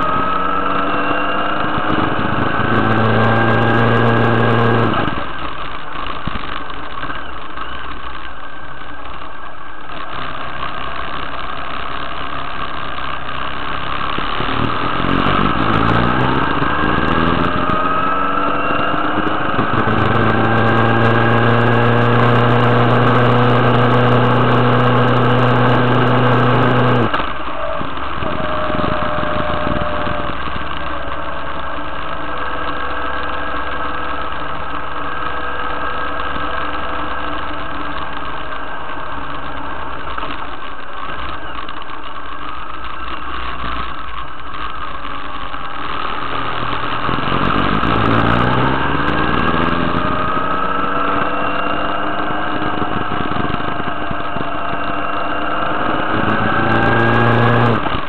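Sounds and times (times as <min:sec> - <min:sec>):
motorcycle engine revving: 0:00.0 - 0:08.2, 0:09.0 - 0:58.0.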